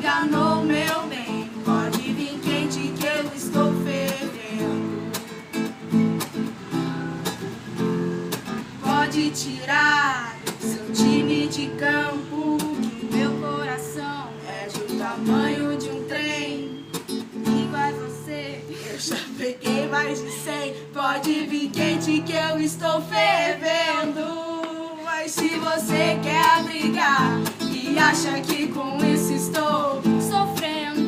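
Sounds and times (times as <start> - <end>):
person singing: 0.0 - 5.6, 8.7 - 31.0
acoustic guitar strumming: 0.0 - 31.0.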